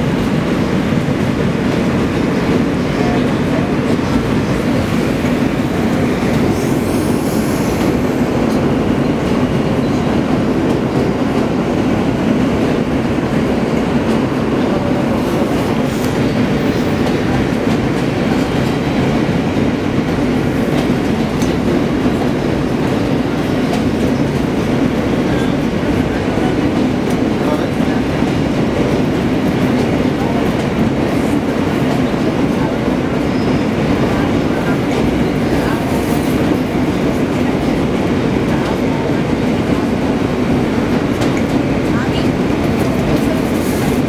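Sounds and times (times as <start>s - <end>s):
subway train wheels rumbling on rails: 0.0s - 44.0s.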